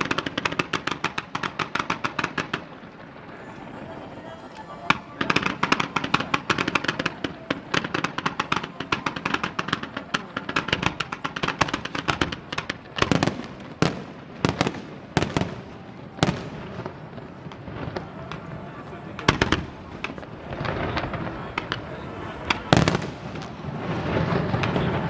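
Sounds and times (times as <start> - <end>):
loud firework bangs: 0.0 - 4.0, 4.8 - 25.0
fireworks crackling: 0.0 - 25.0.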